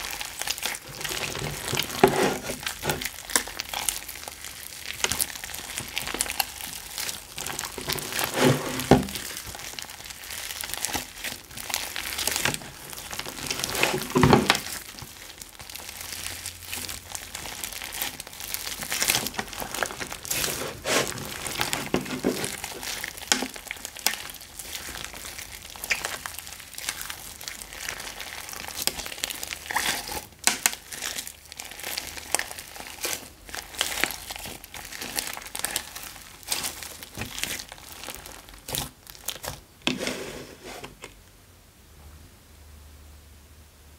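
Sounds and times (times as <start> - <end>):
hands squishing slime: 0.0 - 39.7
slime squelch: 0.0 - 41.1.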